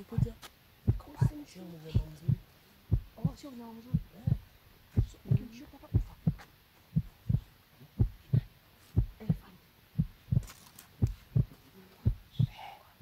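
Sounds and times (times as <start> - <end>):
footsteps as dull thumps: 0.0 - 12.5.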